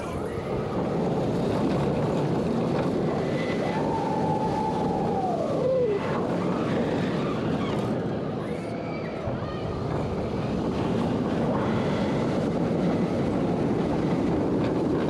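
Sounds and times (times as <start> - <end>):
roller coaster wind and track noise: 0.0 - 15.0.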